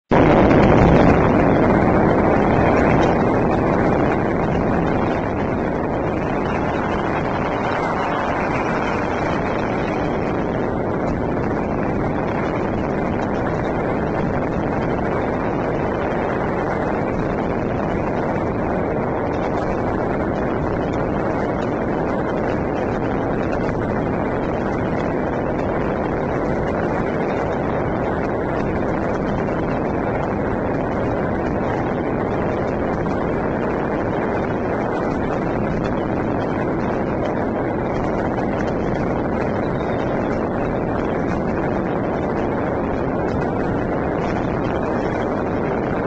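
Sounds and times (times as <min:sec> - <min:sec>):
fireworks and firecrackers crackling: 0:00.1 - 0:46.0.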